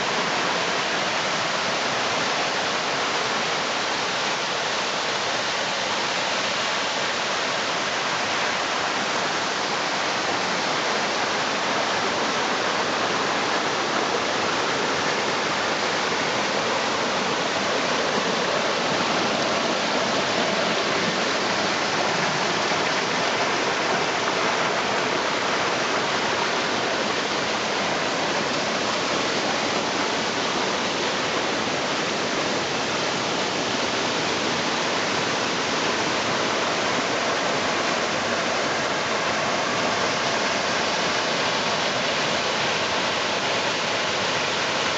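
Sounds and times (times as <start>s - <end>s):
mountain stream rushing loudly: 0.0s - 44.9s.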